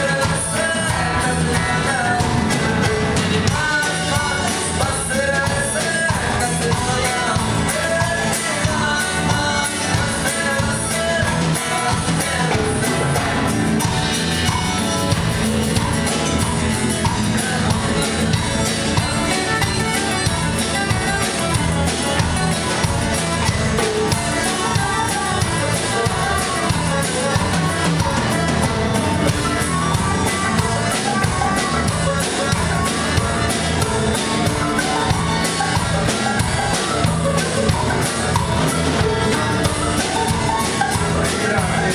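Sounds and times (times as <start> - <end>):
live band playing: 0.0 - 41.9.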